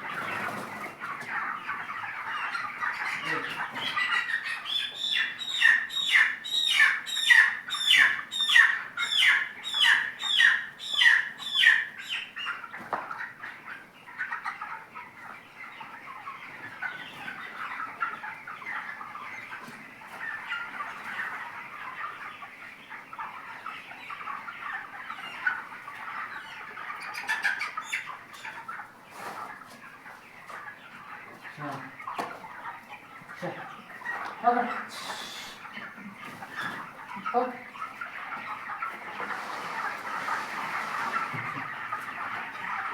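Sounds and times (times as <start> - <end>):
flock of chickens chirping: 0.0 - 42.9.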